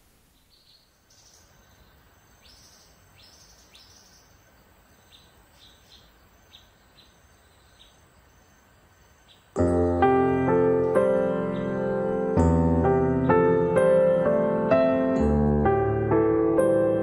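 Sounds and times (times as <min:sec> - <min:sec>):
birds chirping: 0:00.0 - 0:15.3.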